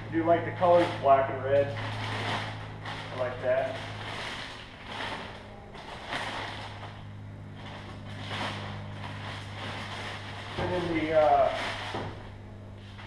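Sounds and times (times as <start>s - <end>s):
steady low hum: 0.0s - 13.0s
rubbing and rustling from handling: 0.2s - 13.0s.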